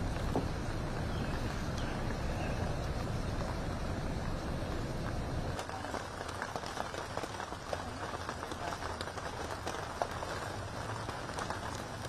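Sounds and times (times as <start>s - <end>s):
outdoor background noise: 0.0s - 12.0s
scattered ticks and pops: 0.0s - 12.0s.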